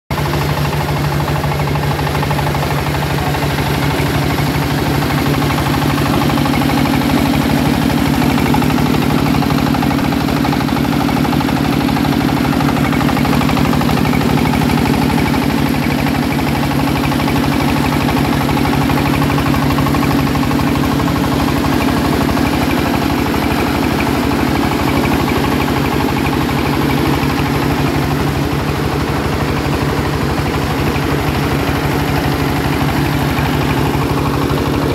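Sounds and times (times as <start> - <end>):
corn sheller machine running: 0.1 - 34.9.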